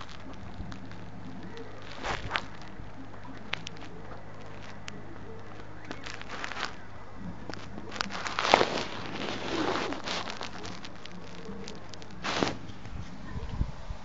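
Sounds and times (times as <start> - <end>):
bedding rustling: 0.0 - 13.3
faint low hum: 0.0 - 14.0.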